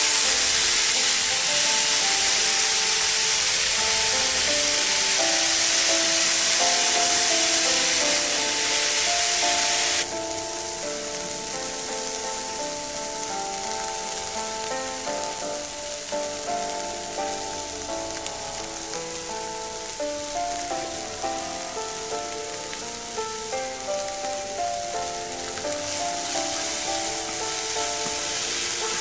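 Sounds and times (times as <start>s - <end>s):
beans sizzling in oil: 0.0s - 29.0s
simple melody background music: 0.0s - 29.0s.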